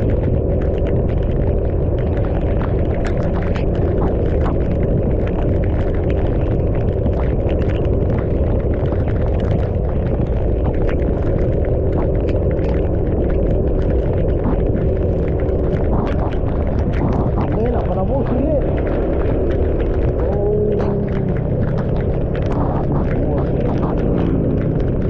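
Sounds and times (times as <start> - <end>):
motorcycle engine hum: 0.0 - 25.0
small ticks on microphone: 0.0 - 25.0
wind buffeting microphone: 0.0 - 25.0.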